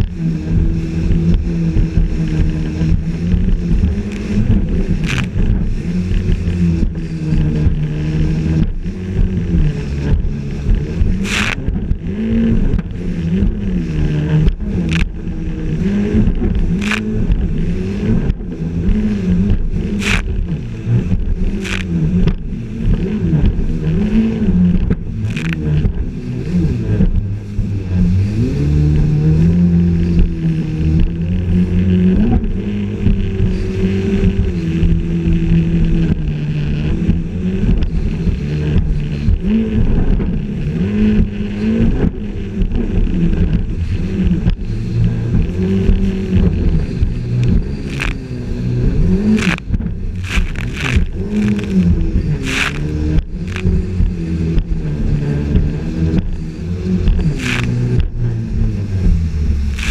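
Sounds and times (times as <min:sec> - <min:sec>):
hull slapping waves: 0:00.0 - 0:59.9
jet ski engine running hard: 0:00.0 - 0:59.9
rushing water and spray: 0:00.0 - 0:59.9.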